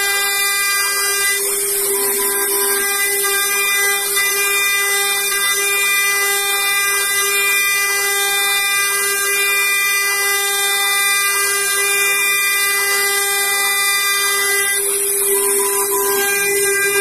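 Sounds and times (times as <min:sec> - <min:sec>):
milling machine spindle whine: 0:00.0 - 0:17.0.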